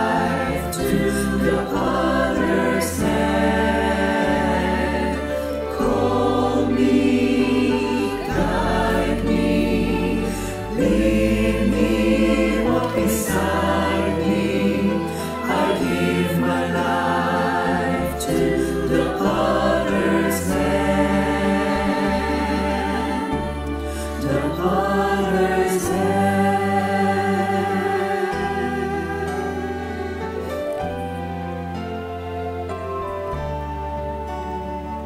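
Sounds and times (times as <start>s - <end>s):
mixed choir singing a hymn: 0.0s - 31.2s
low held bass notes: 0.0s - 35.0s.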